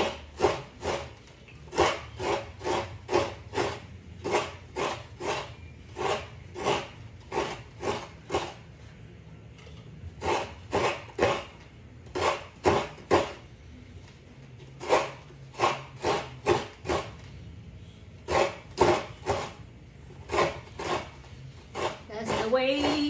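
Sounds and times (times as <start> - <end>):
coconut scraped on grater: 0.0 - 8.6, 10.2 - 13.4, 14.7 - 17.2, 18.2 - 19.6, 20.2 - 23.0.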